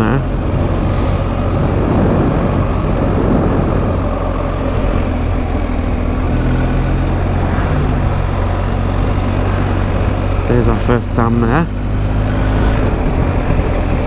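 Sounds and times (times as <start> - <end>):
motorcycle engine running: 0.0 - 14.0
wind noise: 0.0 - 14.0.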